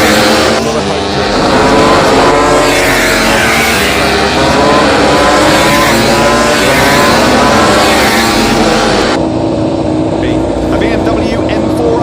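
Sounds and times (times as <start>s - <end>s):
racing engines: 0.0s - 12.0s
steady rushing noise: 0.0s - 12.0s.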